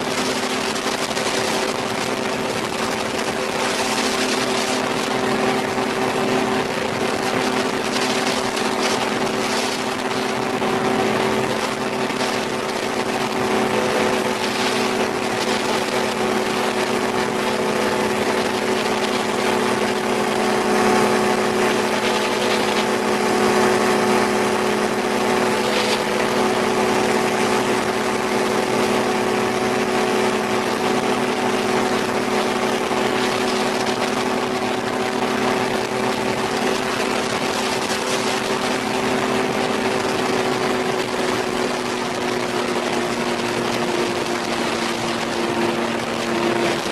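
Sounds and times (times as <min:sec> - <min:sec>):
two-stroke engine running: 0:00.0 - 0:46.9.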